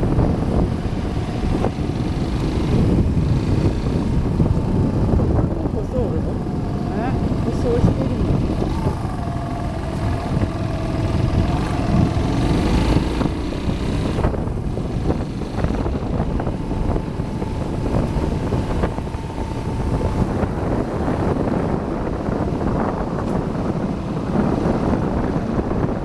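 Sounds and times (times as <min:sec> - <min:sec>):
knocks and rattles from bike: 0:00.0 - 0:26.0
motorcycle engine running: 0:00.0 - 0:26.0
wind buffeting microphone: 0:00.0 - 0:26.0.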